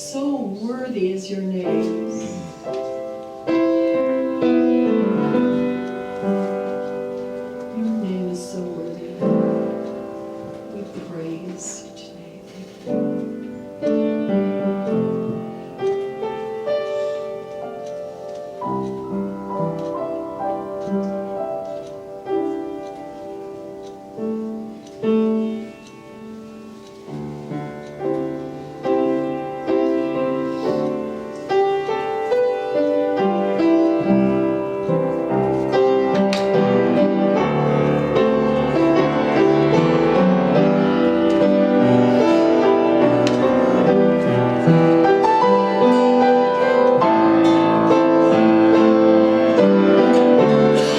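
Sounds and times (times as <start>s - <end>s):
slow worship music on piano: 0.0s - 50.9s.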